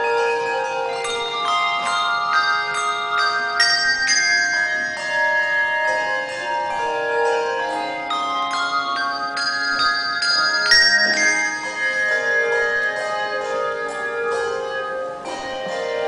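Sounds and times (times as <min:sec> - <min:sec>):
handbell choir ringing: 0:00.0 - 0:16.0.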